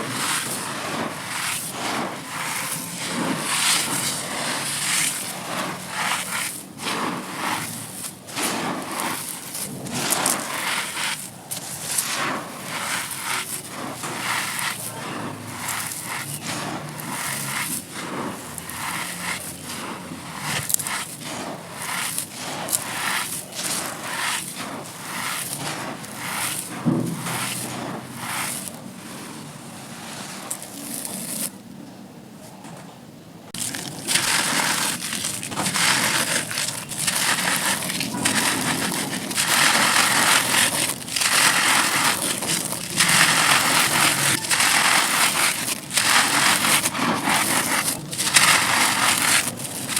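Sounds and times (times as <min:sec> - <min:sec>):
dirt chunks crunching: 0:00.0 - 0:29.4, 0:33.6 - 0:49.9.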